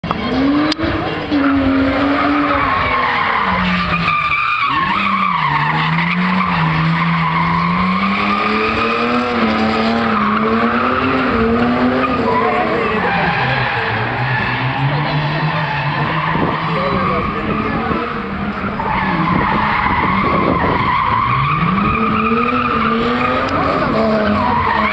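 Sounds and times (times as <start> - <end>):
car engine revving hard: 0.0 - 24.9
tyres squealing: 1.2 - 24.9.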